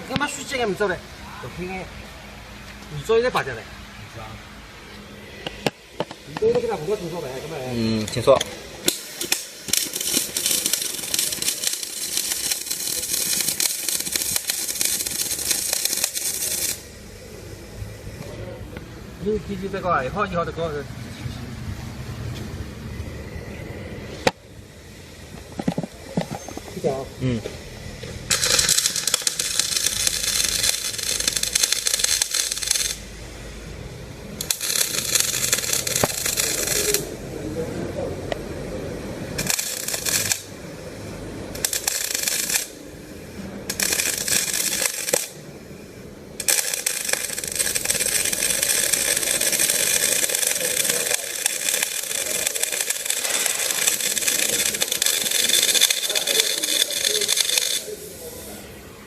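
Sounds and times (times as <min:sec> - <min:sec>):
welding arc crackling: 0:00.0 - 0:59.0.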